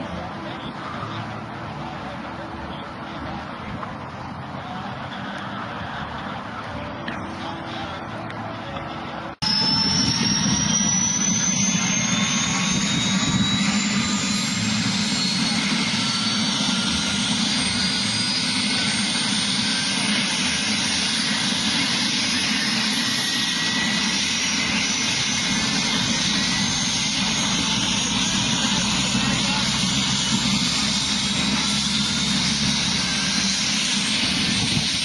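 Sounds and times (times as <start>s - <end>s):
helicopter rotor and engine rumble: 0.0s - 35.0s
helicopter turbine whine: 0.0s - 35.0s.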